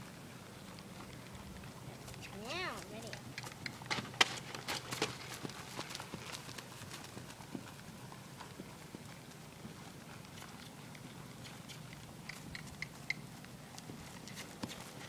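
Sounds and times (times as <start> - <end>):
hoofbeats on grass: 0.0 - 15.0.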